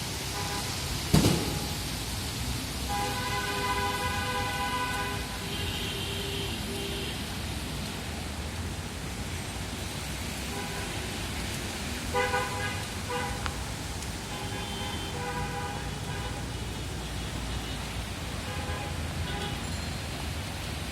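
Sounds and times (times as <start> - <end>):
rain hiss: 0.0 - 20.9.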